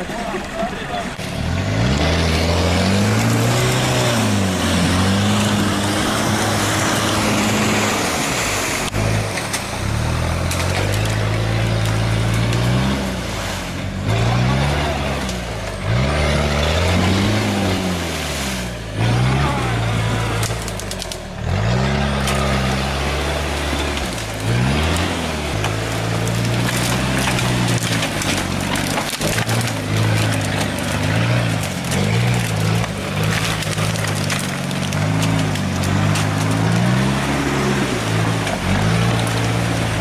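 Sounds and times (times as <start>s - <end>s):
off-road vehicle engine revving: 0.0s - 40.0s
water and mud splashing: 0.0s - 40.0s.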